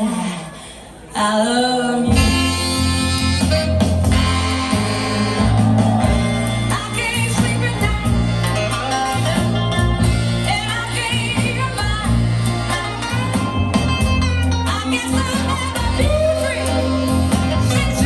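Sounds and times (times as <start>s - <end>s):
guitar accompaniment: 2.0s - 18.0s
steady bass line: 2.1s - 18.0s.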